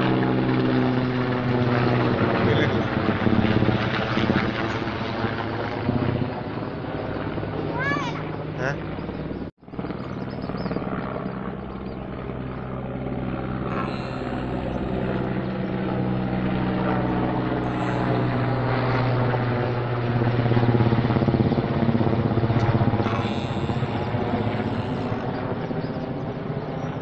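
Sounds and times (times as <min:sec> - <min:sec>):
helicopter rotor beat: 0:00.0 - 0:27.0.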